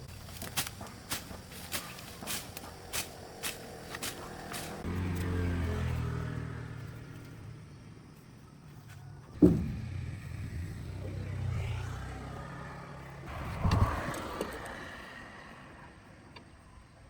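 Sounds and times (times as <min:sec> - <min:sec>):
vehicle engine running: 0:00.0 - 0:14.8.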